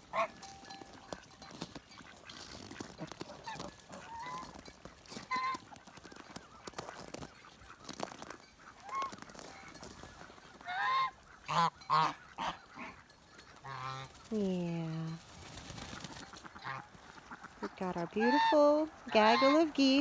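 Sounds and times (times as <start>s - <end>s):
geese honking: 0.0s - 14.3s, 15.8s - 20.0s.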